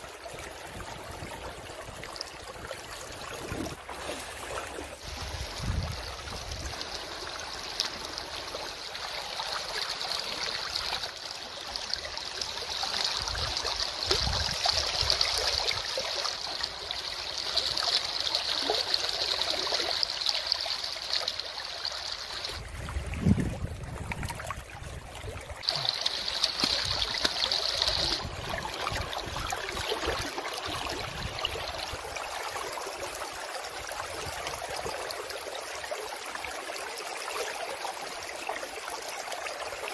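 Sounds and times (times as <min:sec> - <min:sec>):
river water trickling and lapping: 0:00.0 - 0:39.9.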